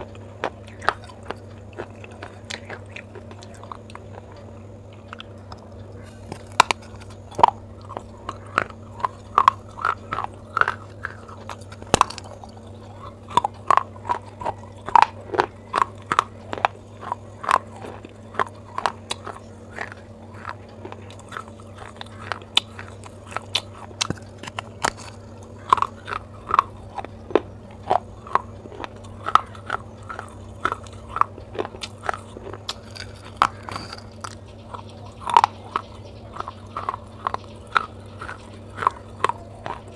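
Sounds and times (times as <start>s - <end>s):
clay pot being chewed: 0.0s - 39.9s.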